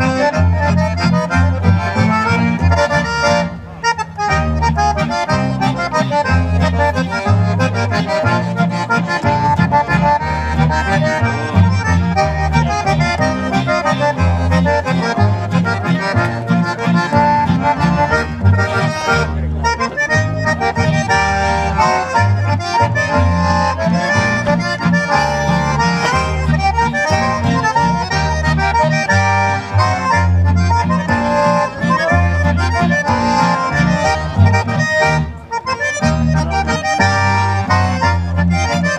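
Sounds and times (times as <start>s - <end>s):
accordions playing melody: 0.0s - 38.9s
acoustic guitar: 0.0s - 38.9s
double bass notes: 0.0s - 38.9s.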